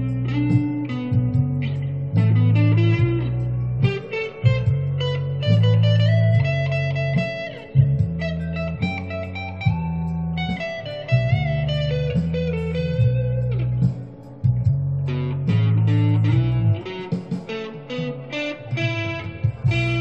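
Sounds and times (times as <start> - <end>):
low steady bass: 0.0 - 16.9, 19.3 - 20.0
electric guitar blues lead: 0.0 - 20.0.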